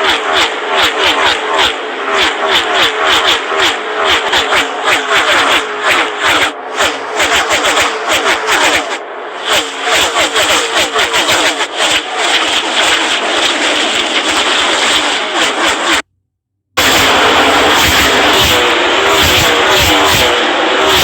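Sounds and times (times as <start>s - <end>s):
race car engines revving: 0.0s - 16.1s, 16.8s - 21.0s.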